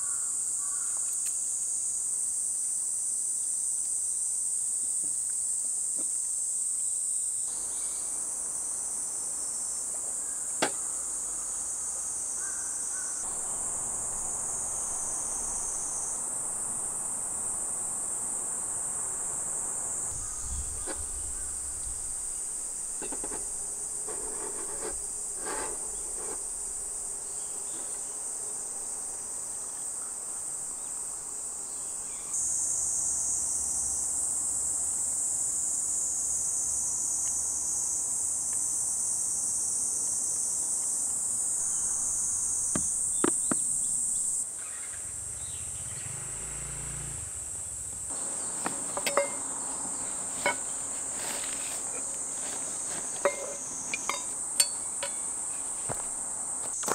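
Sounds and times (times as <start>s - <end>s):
insects chorus: 0.0s - 56.9s.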